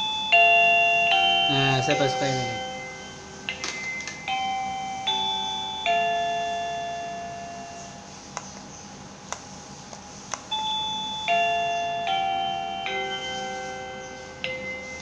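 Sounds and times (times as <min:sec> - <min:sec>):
electronic doorbell chime: 0:00.0 - 0:08.1, 0:10.5 - 0:15.0.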